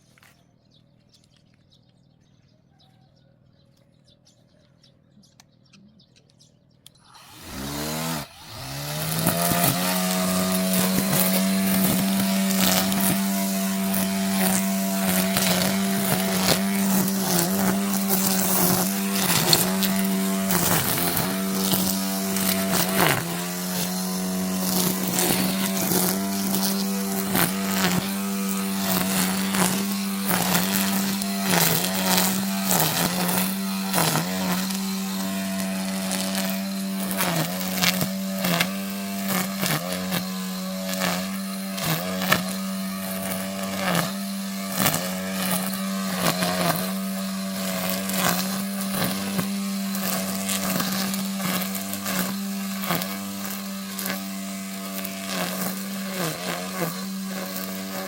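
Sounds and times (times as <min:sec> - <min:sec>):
brush cutter motor running: 0:07.0 - 0:58.0.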